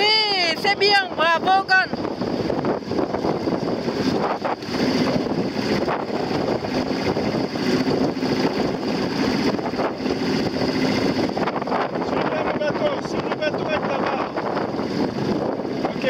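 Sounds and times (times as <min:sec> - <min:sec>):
choppy water waves: 0:00.0 - 0:16.0
wind buffeting microphone: 0:00.0 - 0:16.0.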